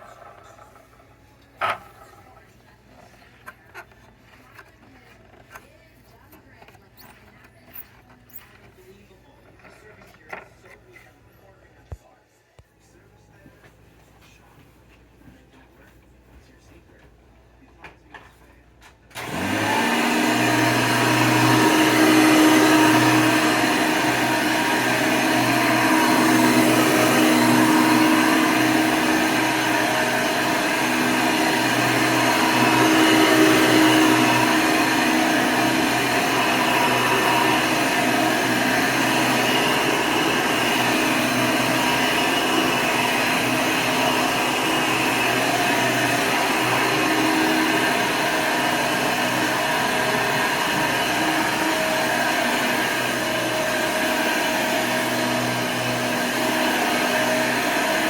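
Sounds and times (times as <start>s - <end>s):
upright vacuum running: 0.0s - 12.2s, 17.8s - 58.0s.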